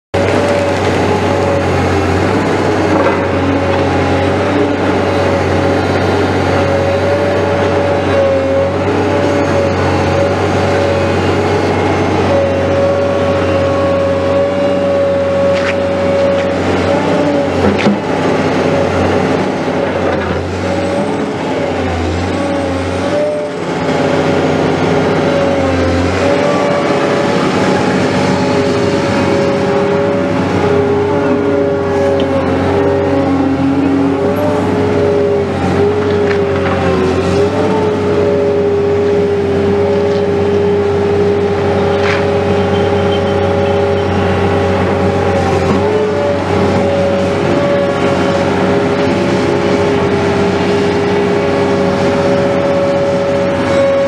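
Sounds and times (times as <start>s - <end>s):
diesel engine drone: 0.1s - 54.0s
sustained whine: 0.2s - 54.0s.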